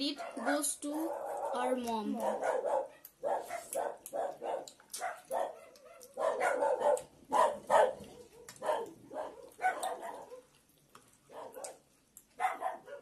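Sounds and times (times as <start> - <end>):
dog barking: 0.0 - 10.6, 11.3 - 13.0.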